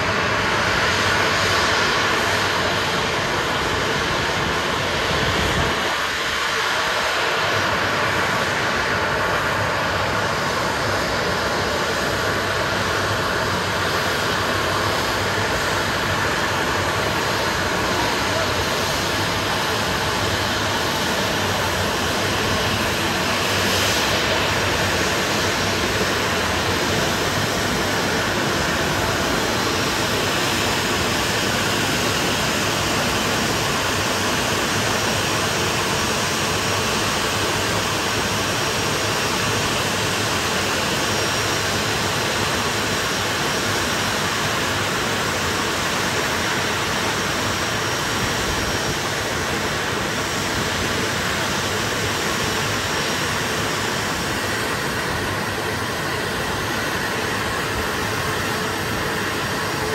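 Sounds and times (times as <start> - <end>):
faint high engine whine: 0.0 - 59.9
jet engines running: 0.0 - 59.9.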